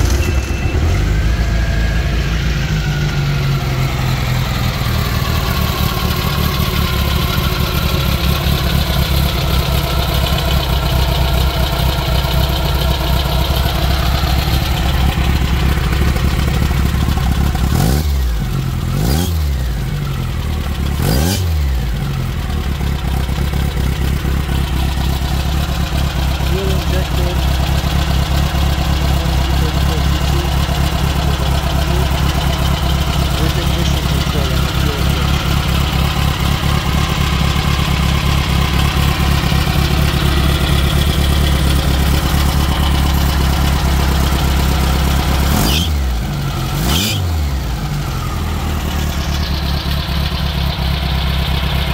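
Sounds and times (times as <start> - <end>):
engine idling and revving: 0.0 - 51.9.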